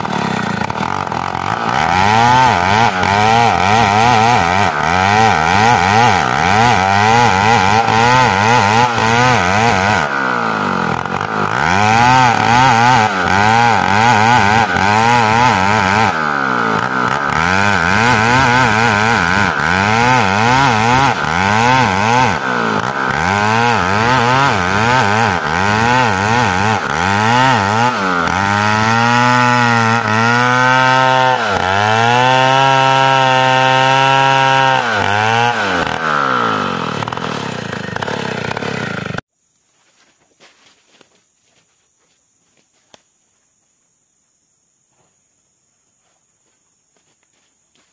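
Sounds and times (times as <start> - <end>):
chainsaw cutting through log: 0.0 - 39.3.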